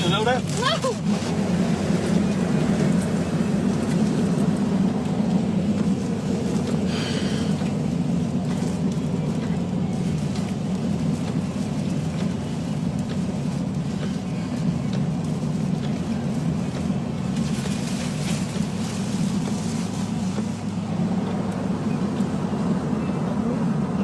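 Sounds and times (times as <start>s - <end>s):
wind roaring: 0.0s - 24.0s.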